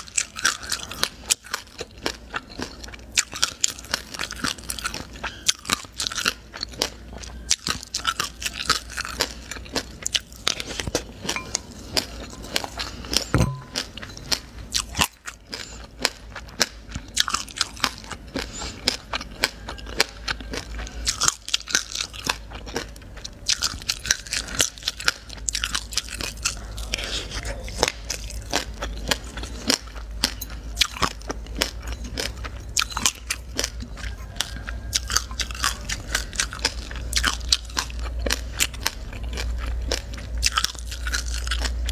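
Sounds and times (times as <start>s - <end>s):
chewing crunchy seeds: 0.0s - 41.9s.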